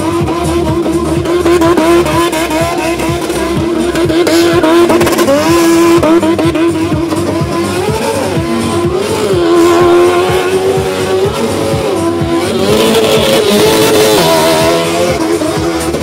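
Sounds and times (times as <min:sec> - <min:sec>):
engine at high revs: 0:00.0 - 0:16.0.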